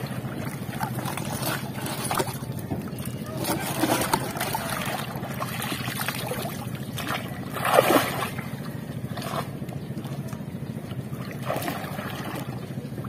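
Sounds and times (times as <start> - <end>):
steady low hum: 0.0 - 13.0
water splashing and sloshing: 0.0 - 13.0.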